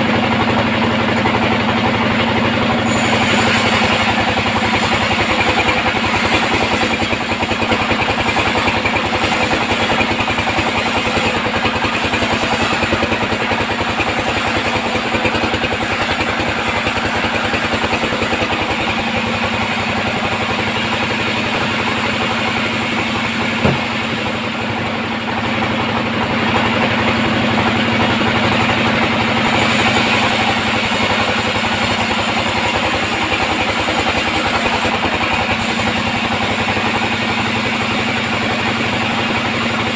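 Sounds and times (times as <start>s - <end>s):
band sawmill drone: 0.0s - 39.9s.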